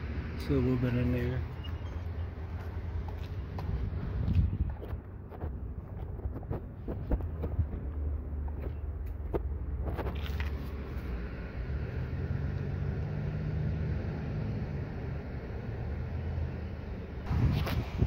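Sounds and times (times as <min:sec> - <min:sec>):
engine hum: 0:00.0 - 0:18.0
road traffic rumble: 0:00.0 - 0:18.0.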